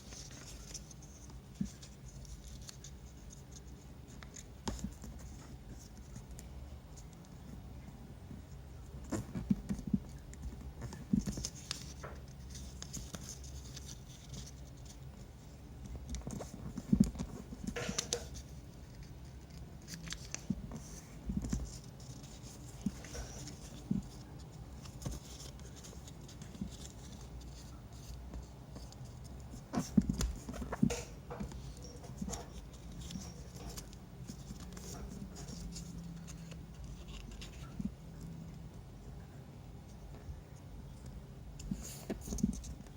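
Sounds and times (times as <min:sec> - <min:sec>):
paper crinkling: 0:00.0 - 0:07.4, 0:09.0 - 0:15.2, 0:15.8 - 0:38.2.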